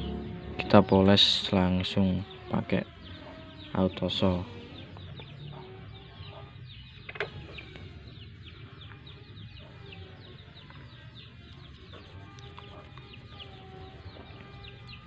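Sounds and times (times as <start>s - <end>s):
chickens peeping: 0.0s - 15.0s.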